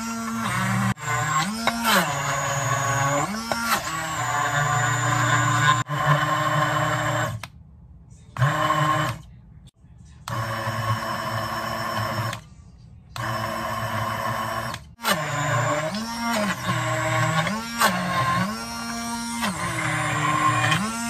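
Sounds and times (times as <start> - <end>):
hand blender motor: 0.0 - 7.4, 8.4 - 9.2, 10.3 - 12.4, 13.2 - 21.0.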